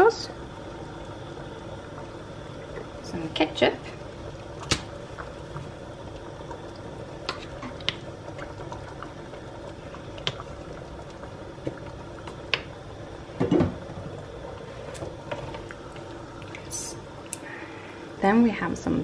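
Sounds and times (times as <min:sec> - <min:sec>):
sauce bubbling in pot: 0:00.0 - 0:18.8.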